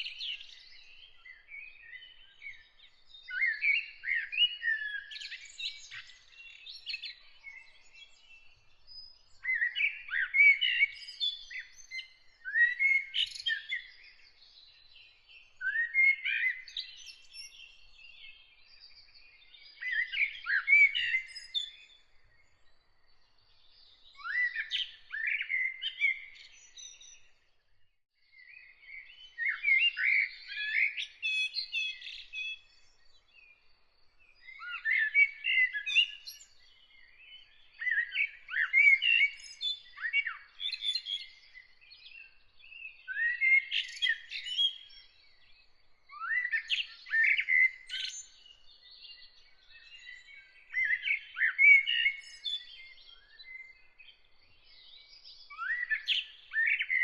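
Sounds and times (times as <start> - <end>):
songbird singing phrases: 0.0 - 57.0.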